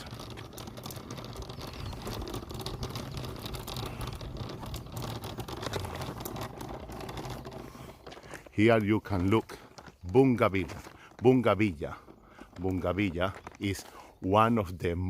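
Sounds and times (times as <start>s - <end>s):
scattered clicks and crackles: 0.0s - 15.0s.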